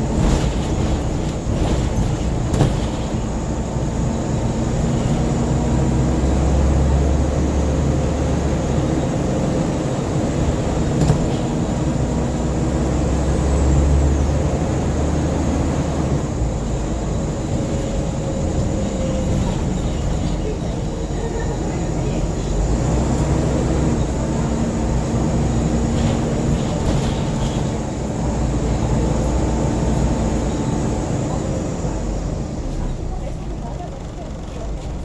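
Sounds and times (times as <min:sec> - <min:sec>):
bus diesel engine and road rumble: 0:00.0 - 0:35.0.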